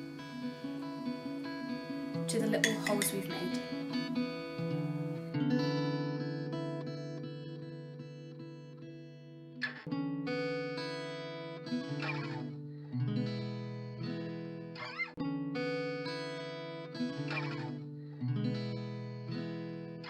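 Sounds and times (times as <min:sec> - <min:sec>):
guitar playing chords: 0:00.0 - 0:20.0.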